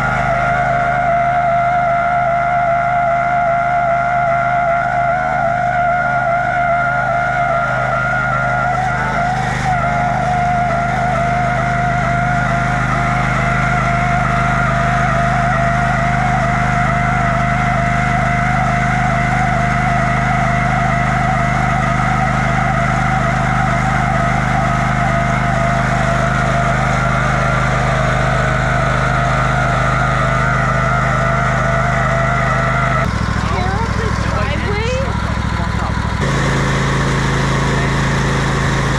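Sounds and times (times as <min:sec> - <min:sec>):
riding lawnmower engine running: 0:00.0 - 0:38.9.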